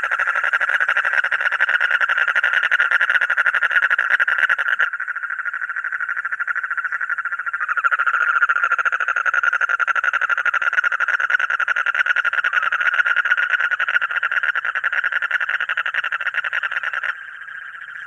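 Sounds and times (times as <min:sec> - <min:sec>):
frog trilling: 0:00.0 - 0:18.0.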